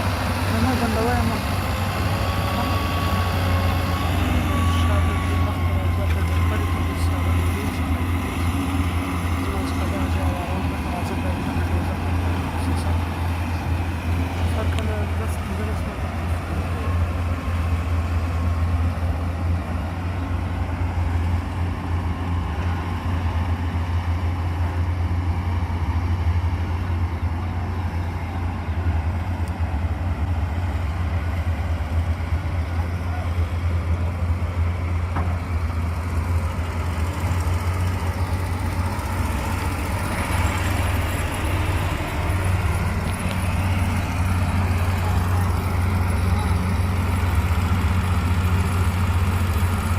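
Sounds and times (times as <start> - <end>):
heavy vehicle engine droning: 0.0 - 49.9.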